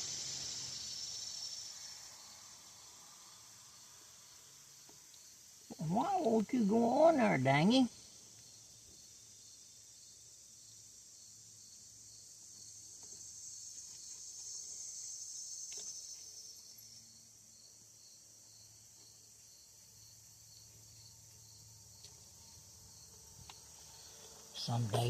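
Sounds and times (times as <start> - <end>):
faint insect chirping: 0.0 - 25.0.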